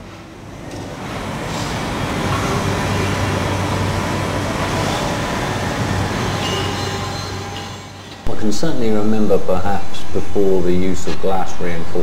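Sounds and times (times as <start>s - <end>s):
heavy machinery humming: 0.0s - 11.9s.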